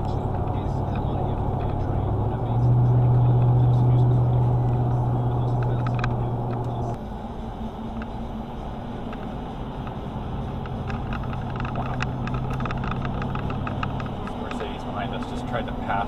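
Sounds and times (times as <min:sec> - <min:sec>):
car engine and road noise: 0:00.0 - 0:16.0
strong low hum: 0:00.0 - 0:16.0.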